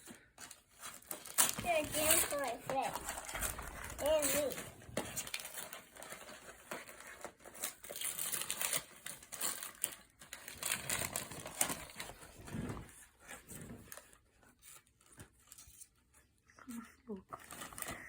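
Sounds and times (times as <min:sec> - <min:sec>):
gift wrapping crinkling: 0:00.0 - 0:16.0, 0:17.3 - 0:18.0.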